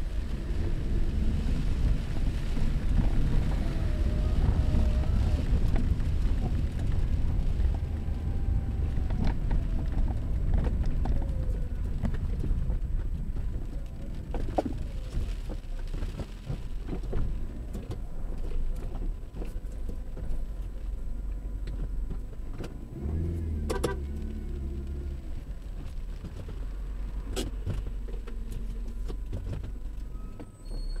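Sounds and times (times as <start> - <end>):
low rumble of engine and wet road: 0.0 - 31.0.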